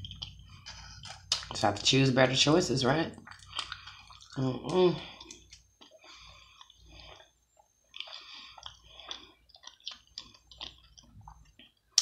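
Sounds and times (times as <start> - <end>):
person chewing with wet mouth smacks: 0.0 - 1.9, 3.1 - 12.0.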